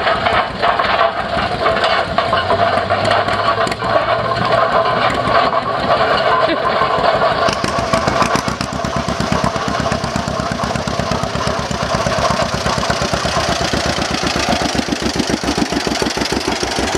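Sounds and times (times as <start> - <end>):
tractor engine exhaust popping: 0.0 - 16.9.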